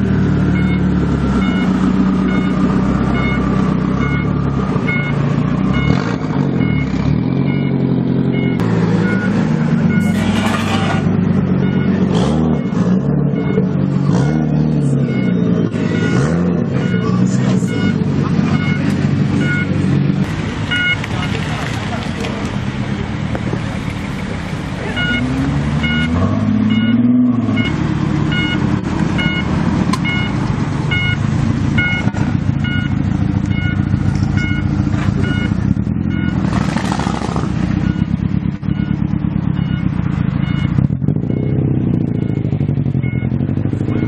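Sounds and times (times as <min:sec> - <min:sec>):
car engines rumbling: 0:00.0 - 0:44.0
engine revving up: 0:00.0 - 0:44.0
short electronic beeps: 0:00.5 - 0:19.8, 0:20.7 - 0:21.4, 0:24.9 - 0:31.2, 0:31.8 - 0:36.5, 0:37.8 - 0:44.0.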